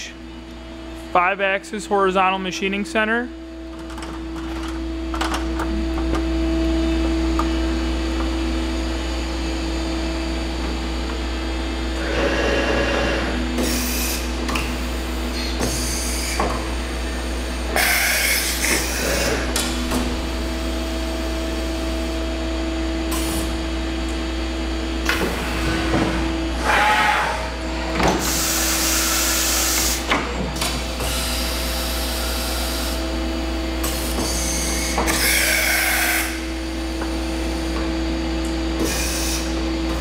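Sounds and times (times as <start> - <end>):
machine low hum with tone: 0.0 - 40.0.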